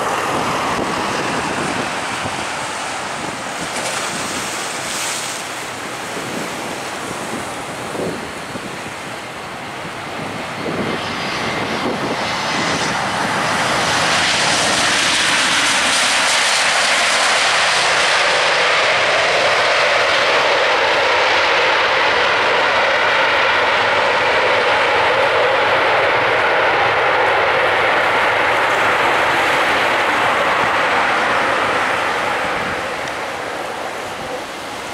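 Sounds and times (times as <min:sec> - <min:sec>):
jet engines during landing: 0:00.0 - 0:34.9.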